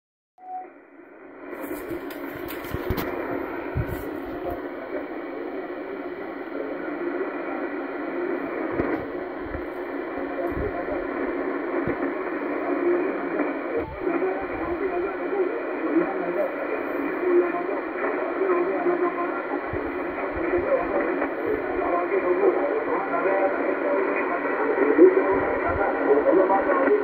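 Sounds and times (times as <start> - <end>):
radio static: 1.0 - 27.0
faint voice: 3.2 - 27.0.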